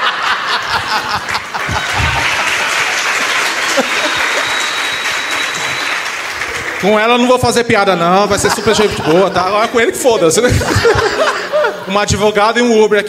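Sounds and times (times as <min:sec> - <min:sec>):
audience laughing: 0:00.0 - 0:06.8, 0:07.9 - 0:12.3
audience applauding: 0:00.0 - 0:11.5.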